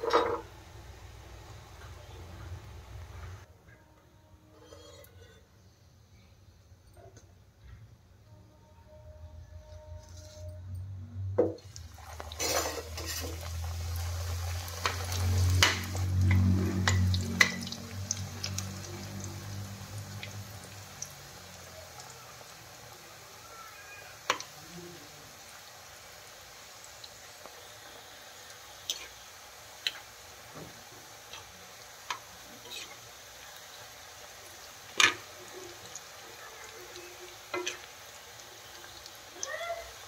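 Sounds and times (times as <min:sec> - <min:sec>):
deep-frying sizzle in oil: 0:00.0 - 0:03.5, 0:09.8 - 0:40.0.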